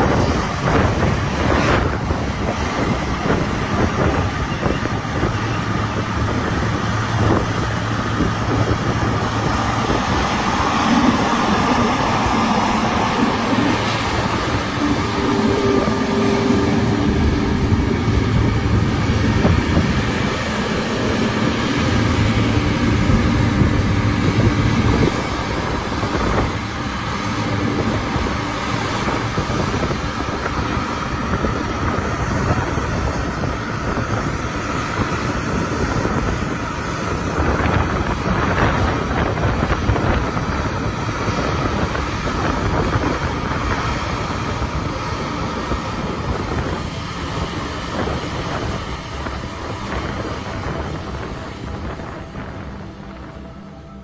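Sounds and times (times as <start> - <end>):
combine diesel engine under load: 0.0 - 54.0
threshing machinery noise: 0.0 - 54.0.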